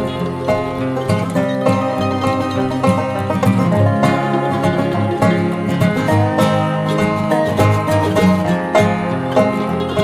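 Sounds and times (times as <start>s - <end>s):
bluegrass tune with plucked strings: 0.0s - 10.0s.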